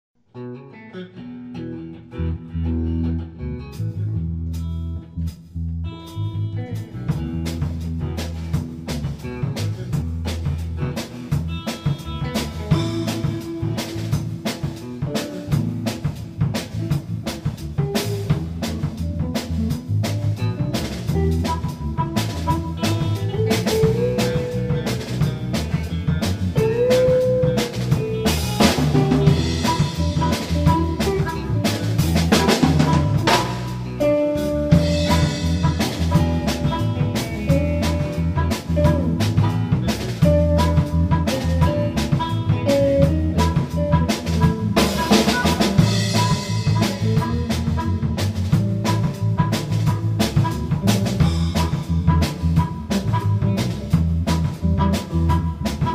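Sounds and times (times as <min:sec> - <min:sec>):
electric guitar bending notes: 0:00.3 - 0:55.9
blues band music: 0:00.4 - 0:55.9
drum kit beat: 0:03.7 - 0:55.9.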